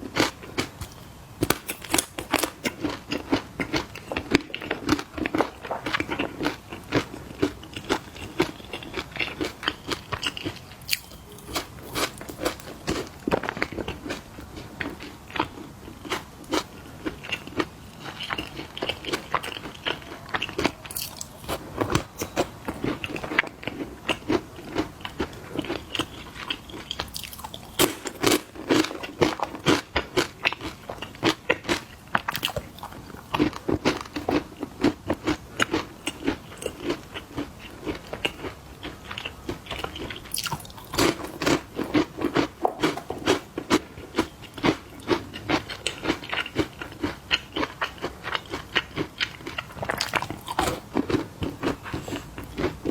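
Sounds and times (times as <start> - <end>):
crunching and chewing snacks: 0.0 - 52.9.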